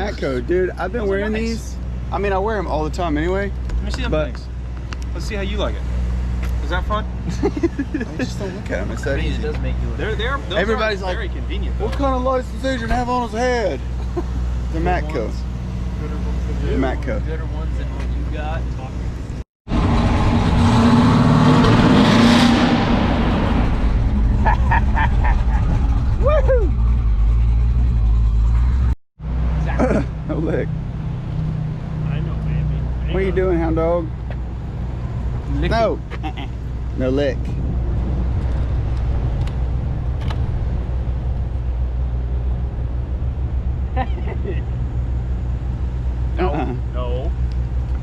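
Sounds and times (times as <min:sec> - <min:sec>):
car engine passing: 0:04.2 - 0:47.9.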